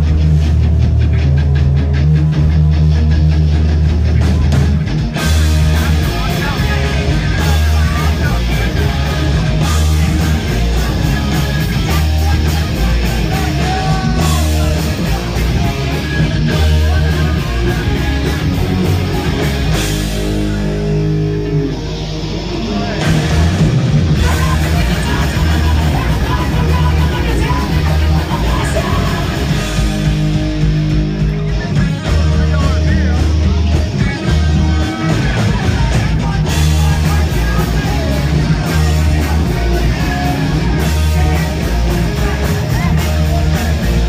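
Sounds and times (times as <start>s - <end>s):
drum kit with cymbals: 0.0s - 44.0s
punk rock band playing live: 0.0s - 44.0s.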